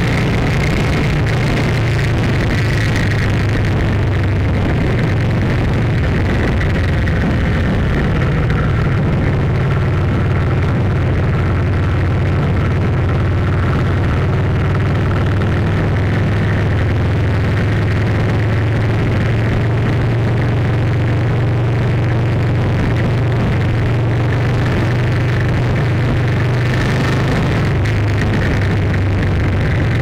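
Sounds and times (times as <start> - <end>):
engine low drone: 0.0 - 30.0.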